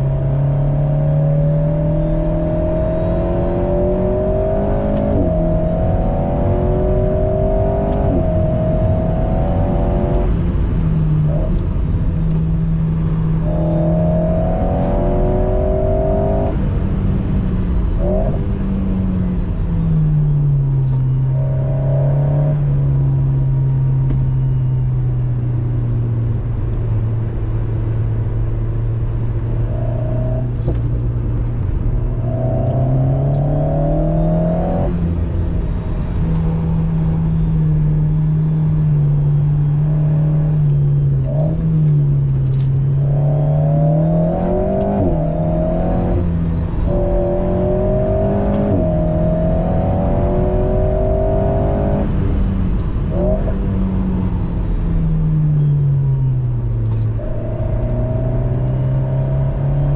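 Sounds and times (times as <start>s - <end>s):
car engine from inside cabin: 0.0s - 59.9s
tyre and road noise: 0.0s - 59.9s.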